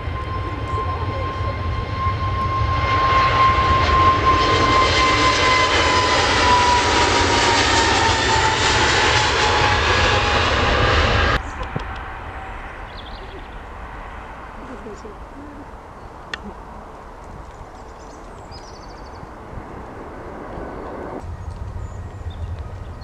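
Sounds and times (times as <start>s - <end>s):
airliner engines passing: 0.0s - 23.0s.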